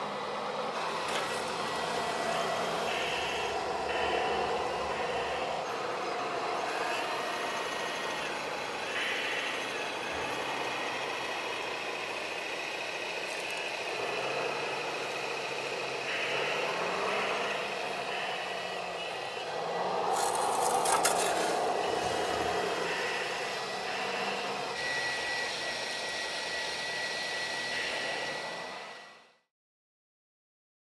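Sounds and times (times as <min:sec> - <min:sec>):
small electric motors whining: 0:00.0 - 0:29.5.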